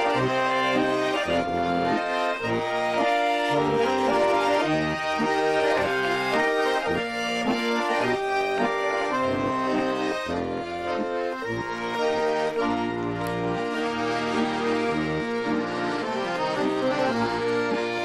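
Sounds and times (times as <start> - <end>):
button accordion folk dance tune: 0.0 - 18.0.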